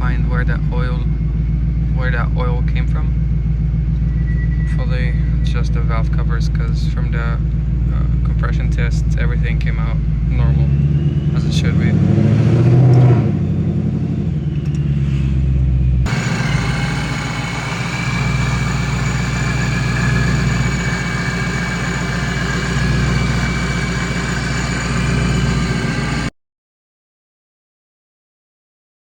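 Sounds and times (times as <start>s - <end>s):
car engine running: 0.0s - 26.3s.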